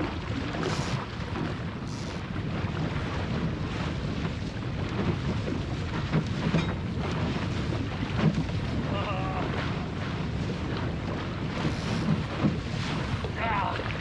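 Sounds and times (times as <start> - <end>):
sharp water splashes: 0.0 - 14.0
water rushing along hull: 0.0 - 14.0
wind buffeting microphone: 0.0 - 14.0.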